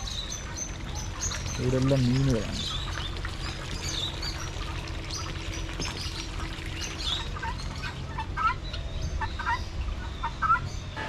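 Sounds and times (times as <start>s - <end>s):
low outdoor rumble: 0.0s - 11.0s
small birds chirping: 0.0s - 11.0s.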